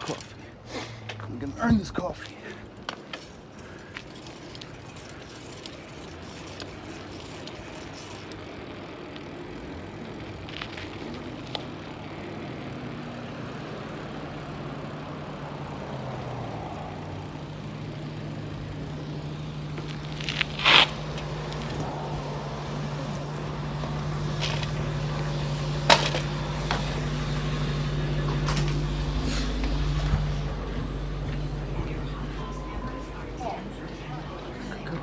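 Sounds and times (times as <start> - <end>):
road and wind noise: 0.0 - 35.0
vehicle engine hum: 0.0 - 35.0.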